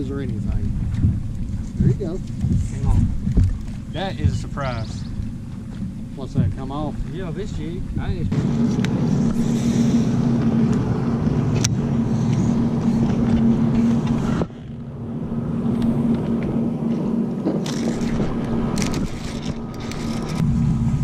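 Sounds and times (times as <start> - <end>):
electric trolling motor humming: 0.0 - 21.0.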